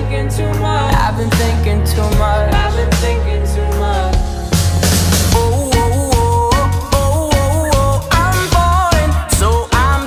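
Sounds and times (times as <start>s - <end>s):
music with bass and drum beat: 0.0s - 10.0s.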